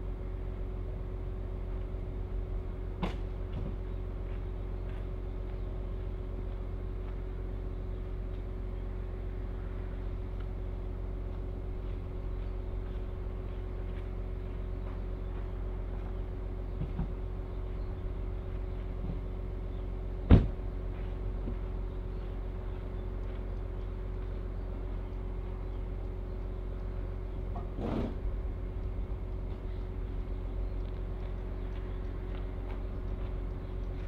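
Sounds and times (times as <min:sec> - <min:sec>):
engine running: 0:00.0 - 0:34.0.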